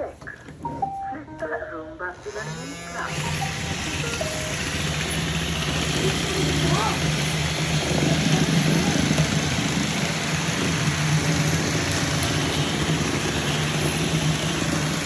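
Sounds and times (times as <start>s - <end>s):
robot vacuum cleaners whirring: 2.3s - 15.0s.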